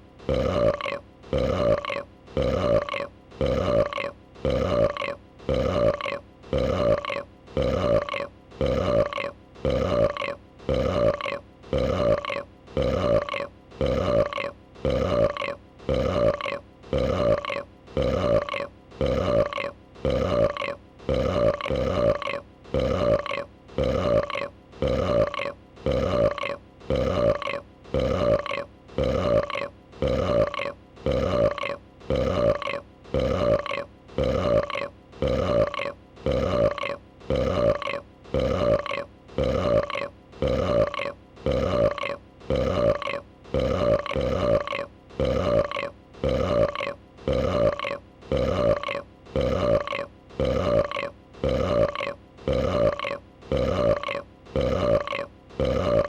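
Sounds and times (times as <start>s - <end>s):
dragon burp: 0.2s - 56.0s.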